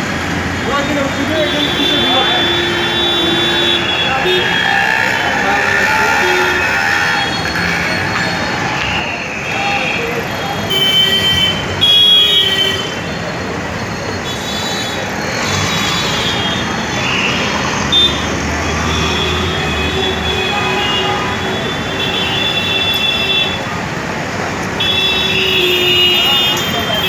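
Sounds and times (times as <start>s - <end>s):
traffic engines and tyres: 0.0s - 27.0s
vehicle horns honking: 1.1s - 13.3s, 14.1s - 23.7s, 24.8s - 27.0s.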